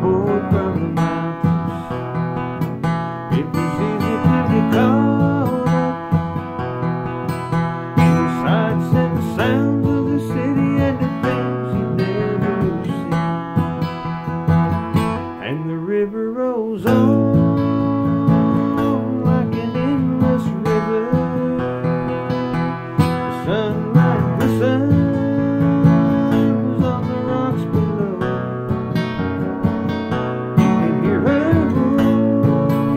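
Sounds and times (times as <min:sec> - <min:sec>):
man singing: 0:00.0 - 0:02.5, 0:03.2 - 0:06.2, 0:08.0 - 0:13.6, 0:15.4 - 0:28.6, 0:30.6 - 0:32.9
acoustic guitar strumming: 0:00.0 - 0:32.9.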